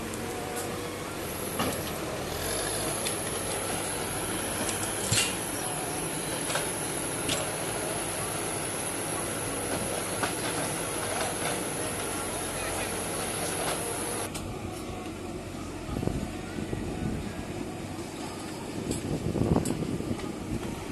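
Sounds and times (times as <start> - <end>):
backhoe diesel engine running: 0.0 - 20.9.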